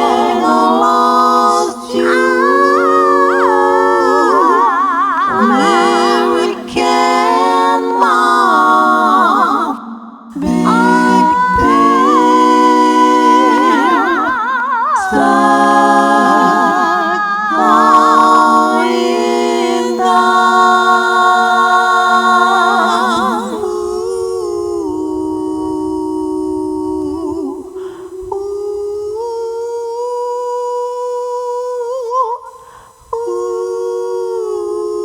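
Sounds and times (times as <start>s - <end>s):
woman singing wordless harmony: 0.0s - 35.0s.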